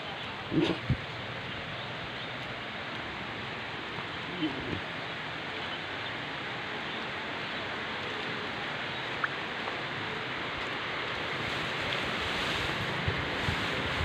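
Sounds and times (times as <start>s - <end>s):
rain on wet concrete: 0.0s - 14.0s.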